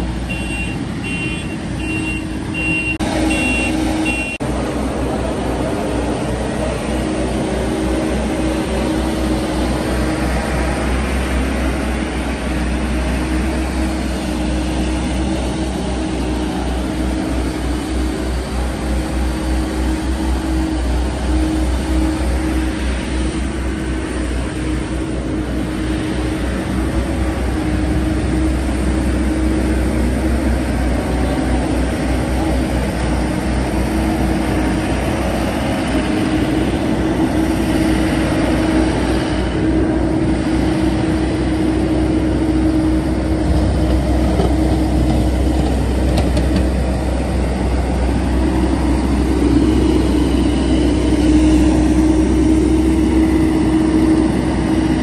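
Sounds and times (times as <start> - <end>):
paver diesel engine running: 0.0 - 55.0.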